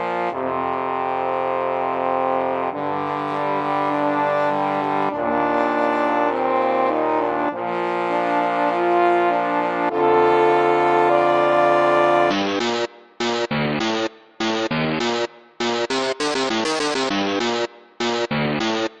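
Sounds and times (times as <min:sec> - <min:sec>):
held brass-like chords: 0:00.0 - 0:18.9.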